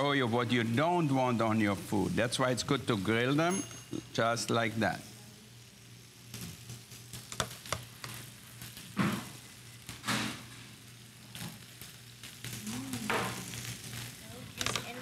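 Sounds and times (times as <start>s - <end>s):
fat sizzling on grill: 0.0s - 15.0s.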